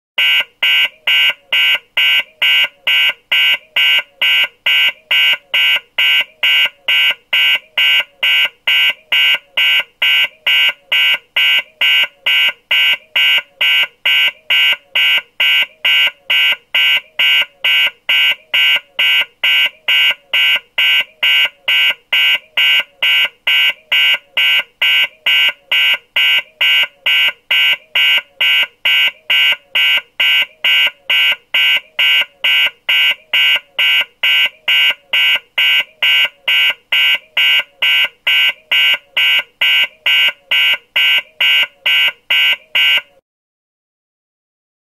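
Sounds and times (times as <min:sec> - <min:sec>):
rapid electronic alarm beeping: 0:00.2 - 0:43.1.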